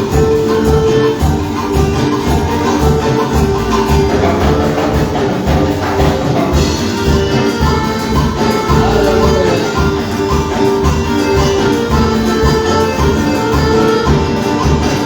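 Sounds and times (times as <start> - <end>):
steady drum beat: 0.0 - 15.0
worship band music: 0.0 - 15.0.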